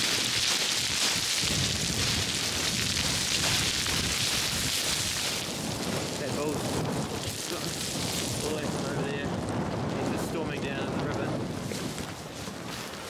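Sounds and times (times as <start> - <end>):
scree crunching underfoot: 0.0 - 13.0.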